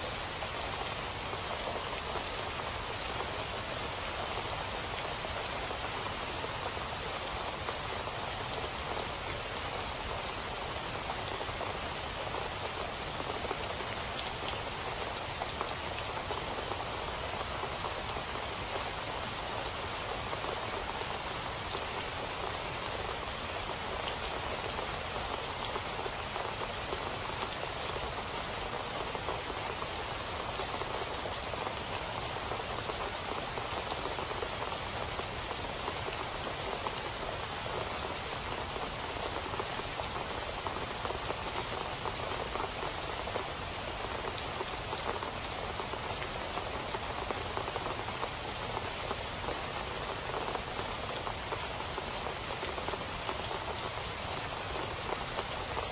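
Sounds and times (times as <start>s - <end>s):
heavy rain splashing into water: 0.0s - 55.9s.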